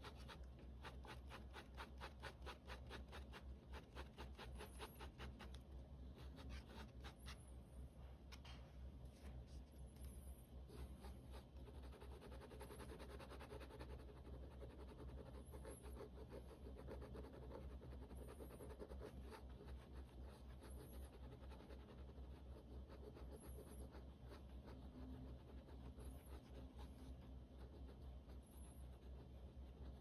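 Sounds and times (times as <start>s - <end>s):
pen scratching on paper: 0.0s - 7.4s, 10.7s - 30.0s
low steady hum: 0.0s - 30.0s.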